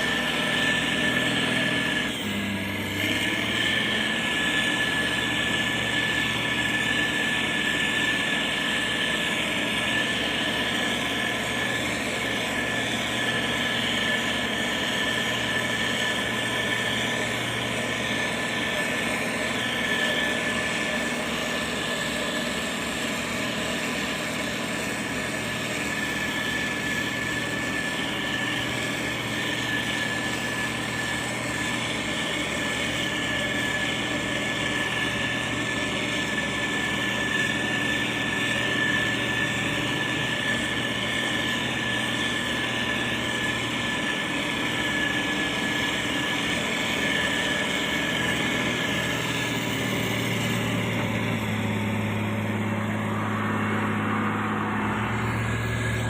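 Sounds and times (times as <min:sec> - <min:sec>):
diesel engine running: 0:00.0 - 0:56.0
steady high whine: 0:00.0 - 0:56.0.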